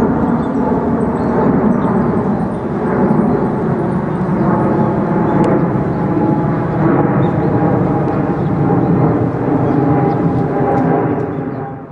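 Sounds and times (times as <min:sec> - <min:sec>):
jet engine roar: 0:00.0 - 0:11.9.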